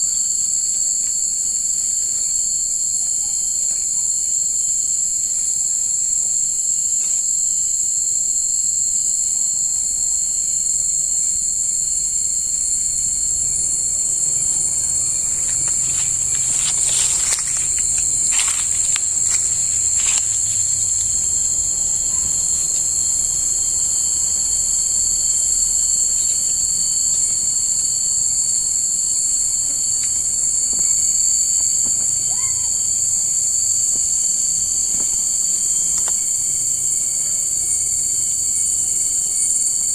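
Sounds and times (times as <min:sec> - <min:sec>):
shrill insect chorus: 0:00.0 - 0:39.9.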